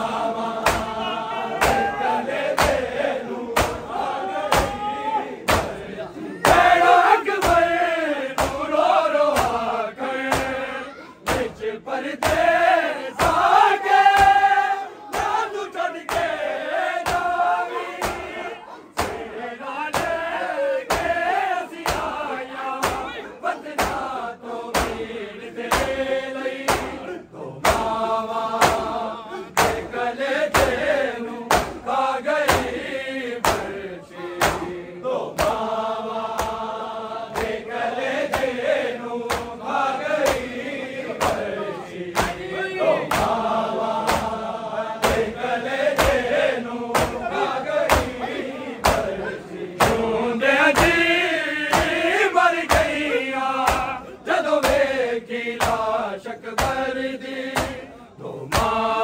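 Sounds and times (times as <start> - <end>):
men chanting in chorus: 0.0 - 59.0
hands beating chest: 0.6 - 5.8, 6.4 - 10.6, 11.2 - 11.6, 12.2 - 18.4, 19.0 - 33.8, 34.4 - 34.8, 35.4 - 49.2, 49.8 - 57.9, 58.5 - 59.0.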